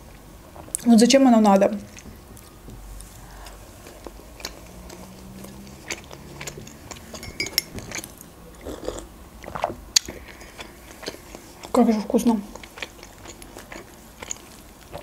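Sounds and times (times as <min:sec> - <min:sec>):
close chewing: 0:01.8 - 0:15.0.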